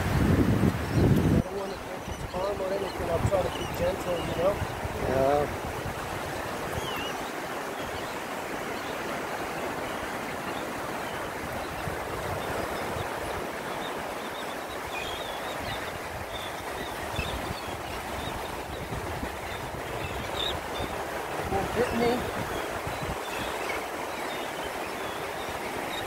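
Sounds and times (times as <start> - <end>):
surf rushing on a beach: 0.0 - 26.0.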